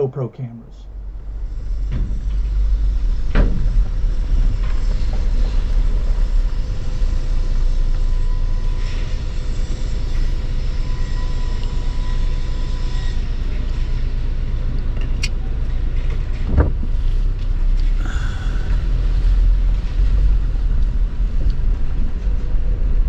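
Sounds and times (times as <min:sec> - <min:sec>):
vehicle engine and tyres rumbling: 0:00.8 - 0:23.0.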